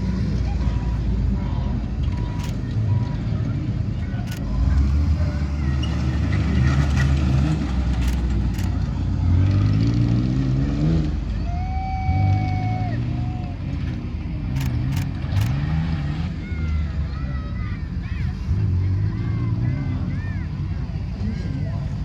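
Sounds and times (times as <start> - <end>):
truck engine revving: 0.0 - 11.4, 12.1 - 22.0.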